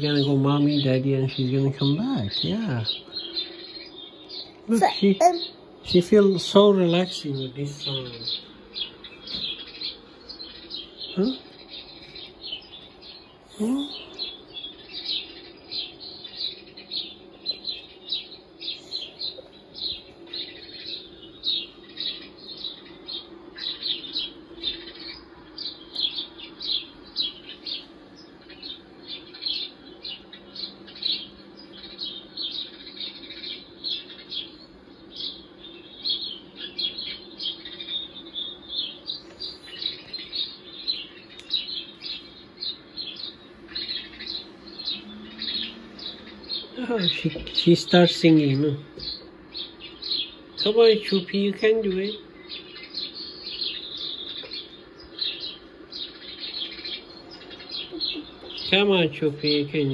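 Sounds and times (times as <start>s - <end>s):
sparrows chirping: 0.0s - 59.9s
steady low hum: 0.0s - 59.9s.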